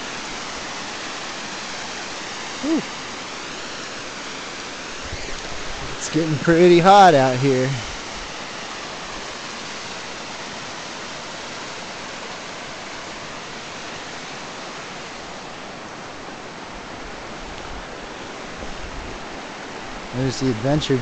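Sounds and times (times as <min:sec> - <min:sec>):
water cascading down rock: 0:00.0 - 0:21.0.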